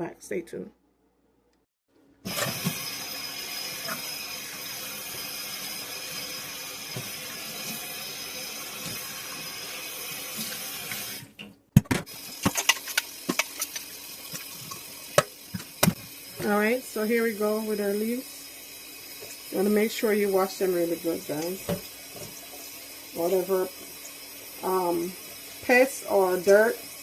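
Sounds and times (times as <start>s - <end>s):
tap water running into a sink: 2.3s - 27.0s.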